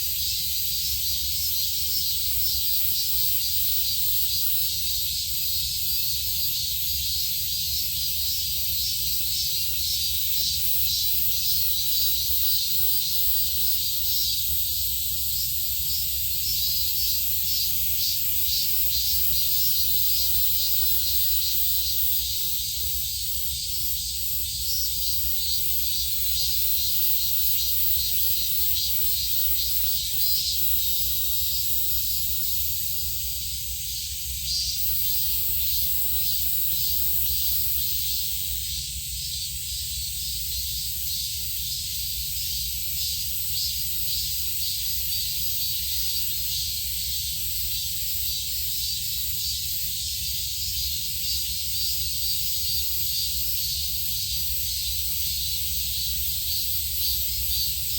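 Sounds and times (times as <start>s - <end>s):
insects chorus pulsing: 0.0s - 57.9s.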